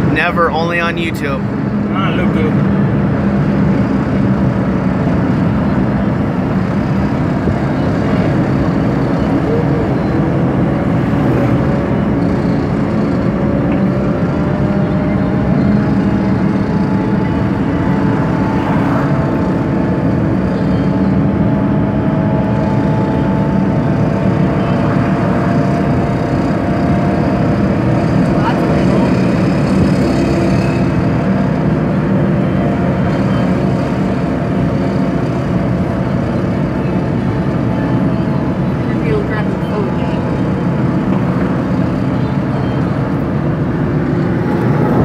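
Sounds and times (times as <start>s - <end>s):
car engine and tyre drone: 0.0s - 45.0s.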